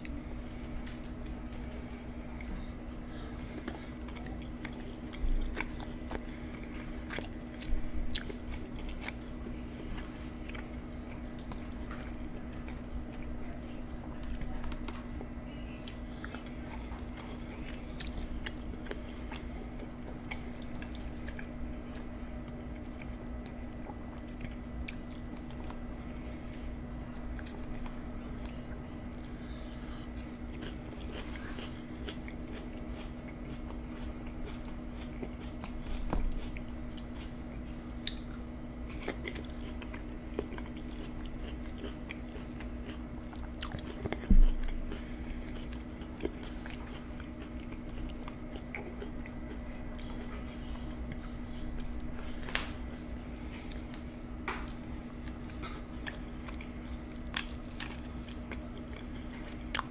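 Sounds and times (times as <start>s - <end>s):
close chewing and biting: 0.0s - 59.9s
steady low hum: 0.0s - 59.9s.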